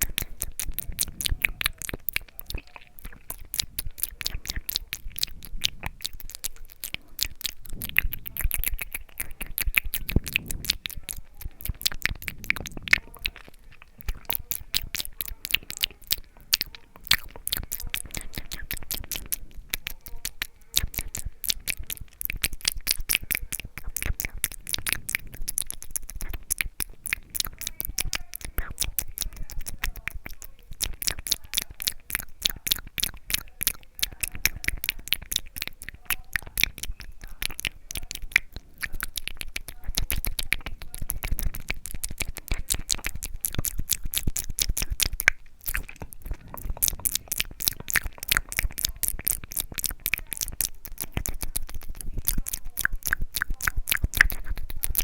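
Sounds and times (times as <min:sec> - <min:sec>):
lip and tongue clicks: 0:00.0 - 0:55.0.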